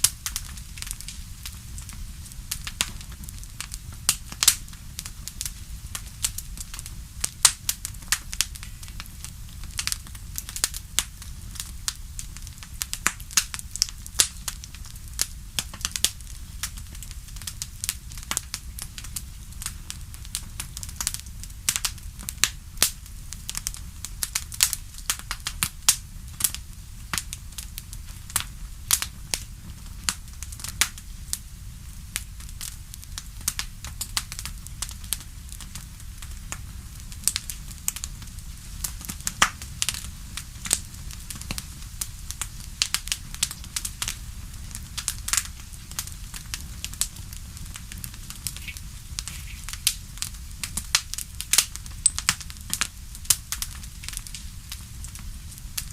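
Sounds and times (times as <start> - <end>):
fire crackling and popping: 0.0 - 55.9
low fire rumble: 0.0 - 55.9.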